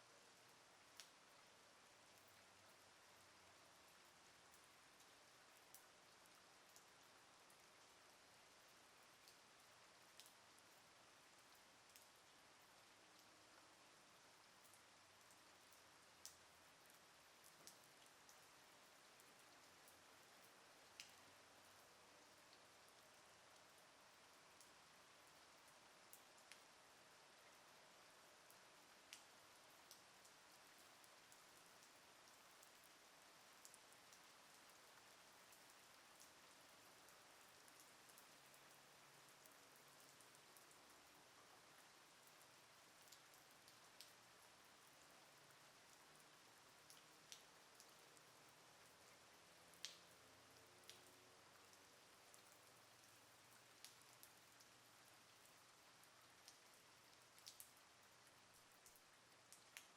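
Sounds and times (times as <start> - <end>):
faint steady rain hiss: 0.0 - 59.9
raindrops ticking on a surface: 0.0 - 59.9.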